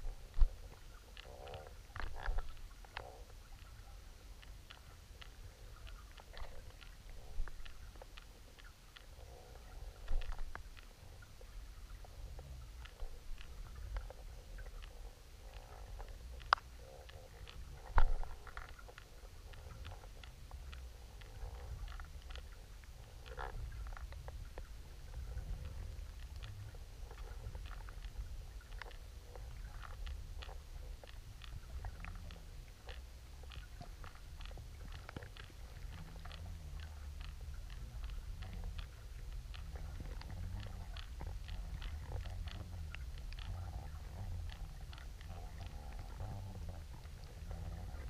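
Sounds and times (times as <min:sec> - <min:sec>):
faint underwater clicks: 0:00.0 - 0:48.0
underwater water flow rumble: 0:00.0 - 0:48.0.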